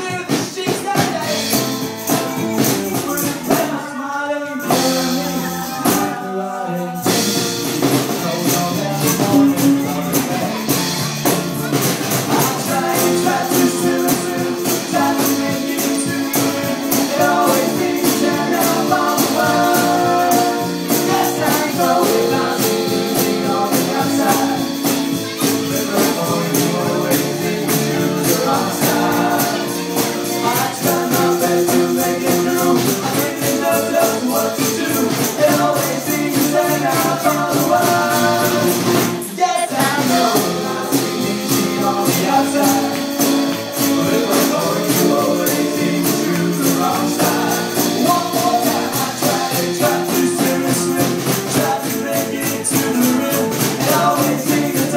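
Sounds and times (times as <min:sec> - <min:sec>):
hand percussion beat: 0:00.0 - 0:03.9, 0:04.5 - 0:54.9
live band music: 0:00.0 - 0:54.9.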